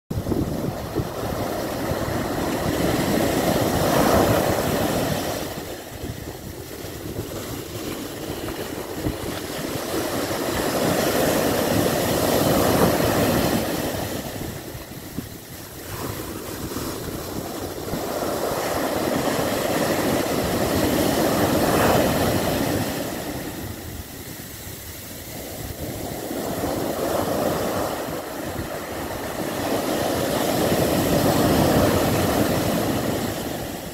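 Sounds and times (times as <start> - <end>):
surf breaking on beach: 0.1 - 33.9.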